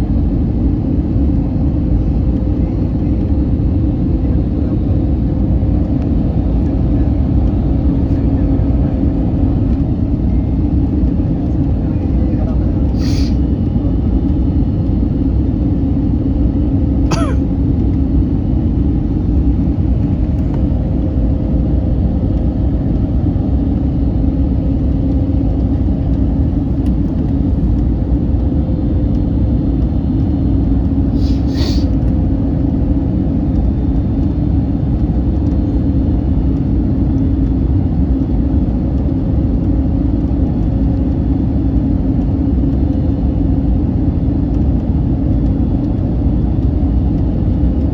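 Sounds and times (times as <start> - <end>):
airliner cabin rumble: 0.0 - 47.9
steady hum: 0.0 - 47.9.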